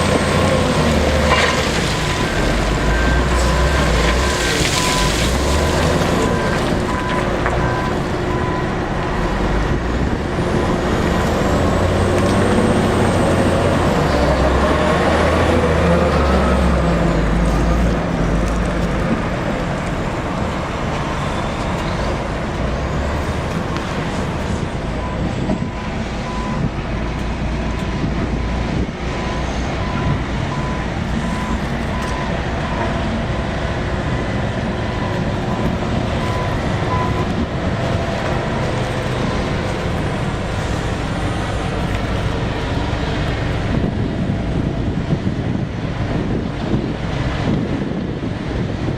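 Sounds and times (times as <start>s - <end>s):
diesel construction machinery running: 0.0s - 48.9s.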